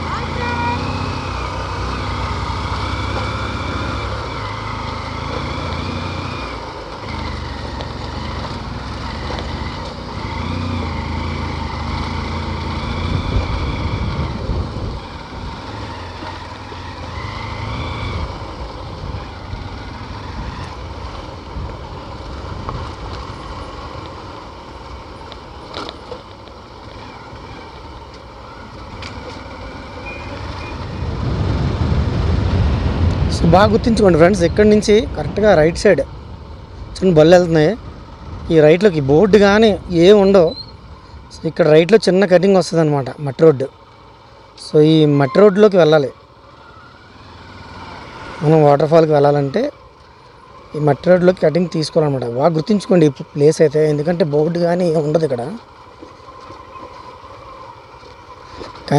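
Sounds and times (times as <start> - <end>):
motorbike engine rumble: 0.0 - 58.9
road noise: 0.0 - 58.9.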